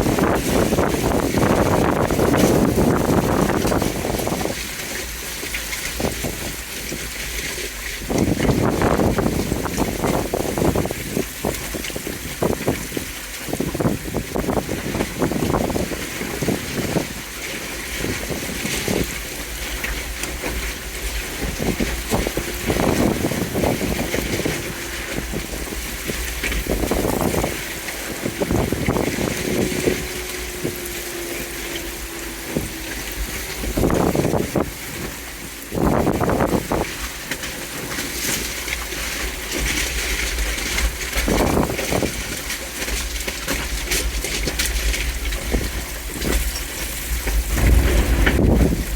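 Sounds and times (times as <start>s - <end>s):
deep rumble: 0.0s - 37.2s, 44.5s - 48.9s
floodwater rushing and splashing: 0.0s - 48.9s.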